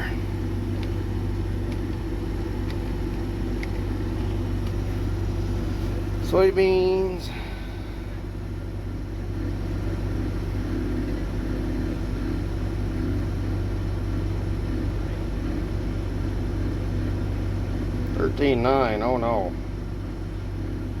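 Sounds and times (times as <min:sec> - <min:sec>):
combine harvester engine drone: 0:00.0 - 0:21.0.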